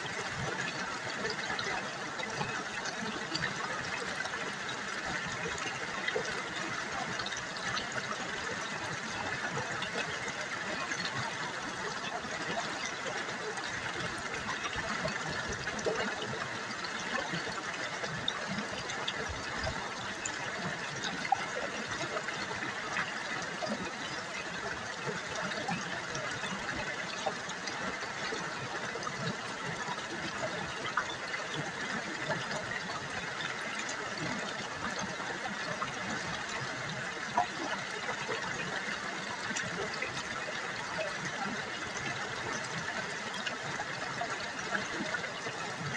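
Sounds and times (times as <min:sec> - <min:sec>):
river water babbling over stones: 0:00.0 - 0:45.9.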